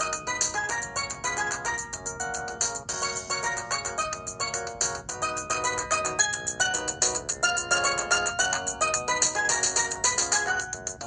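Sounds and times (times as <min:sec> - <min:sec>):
polyphonic phone ringtone: 0:00.0 - 0:11.0.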